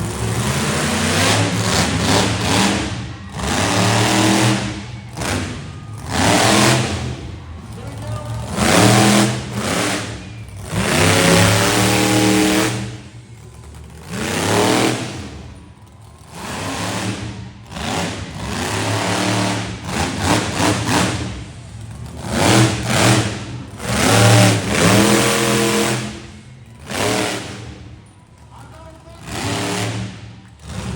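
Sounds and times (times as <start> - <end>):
truck engines revving: 0.0 - 30.9.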